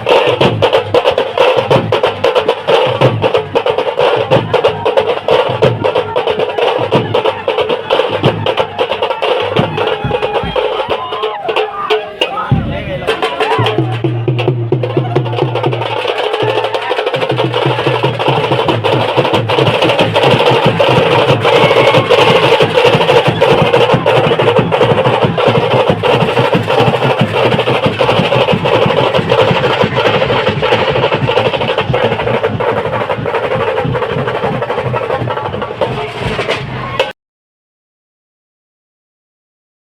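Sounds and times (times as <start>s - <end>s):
fast dense drumming: 0.0s - 37.1s.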